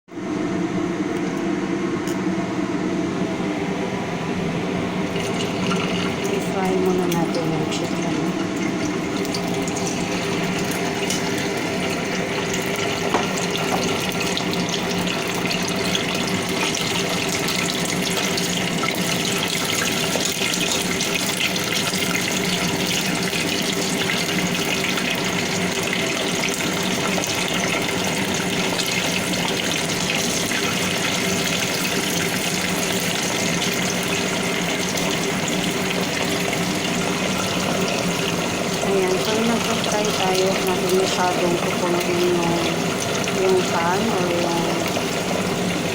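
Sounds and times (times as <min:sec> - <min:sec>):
chicken frying in oil: 0:03.4 - 0:45.9.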